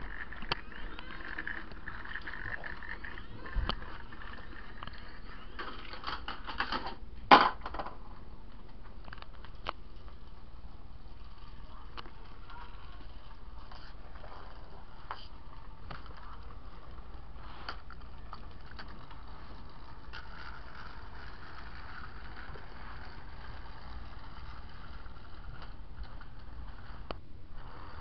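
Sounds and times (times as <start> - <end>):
toy train motor whirring: 0.0 - 6.9, 11.0 - 28.0.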